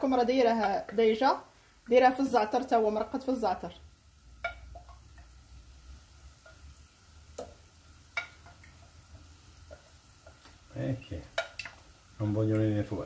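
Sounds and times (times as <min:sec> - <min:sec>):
sauce sizzling in a pan: 0:00.0 - 0:13.0.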